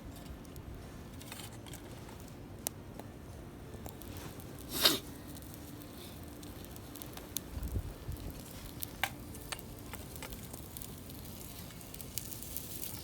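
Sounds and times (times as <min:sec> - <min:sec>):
campfire crackling and popping: 0:01.8 - 0:13.0.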